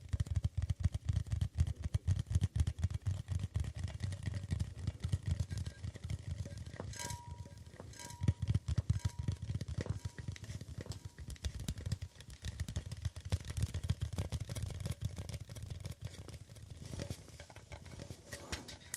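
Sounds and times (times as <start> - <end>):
rapid tapping on objects: 0.0 - 18.9.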